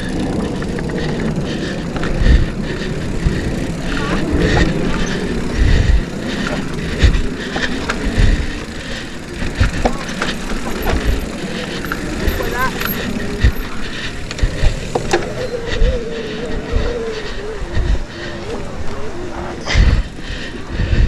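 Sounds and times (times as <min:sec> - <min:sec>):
bike thumps and rattles: 0:00.0 - 0:20.2
wind and trail noise: 0:00.0 - 0:21.0.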